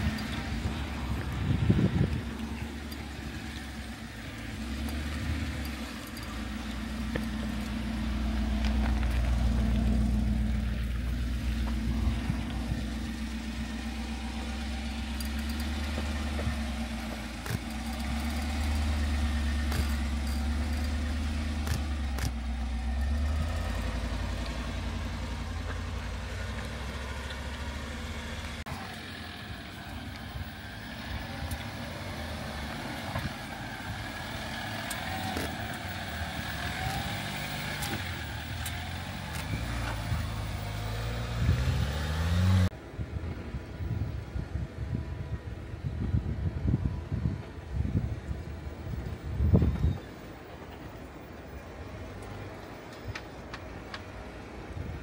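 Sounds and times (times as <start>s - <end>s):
engine running at low speed: 0.0s - 55.0s.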